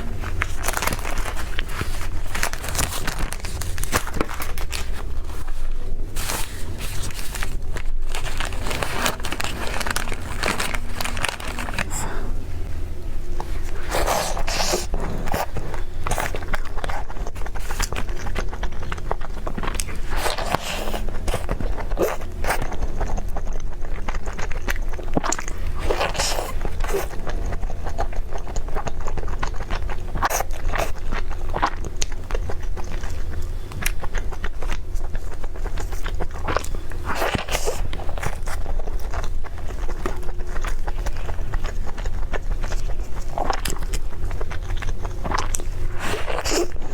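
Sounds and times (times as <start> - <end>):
biting and chewing crunches: 0.0 - 46.9
steady low hum: 0.0 - 46.9.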